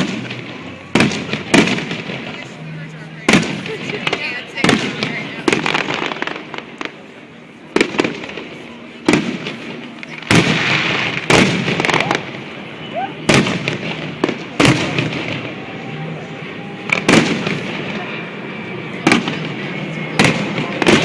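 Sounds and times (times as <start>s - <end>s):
fireworks crackling and rumbling: 0.0s - 21.0s
fireworks shells booming: 0.0s - 21.0s.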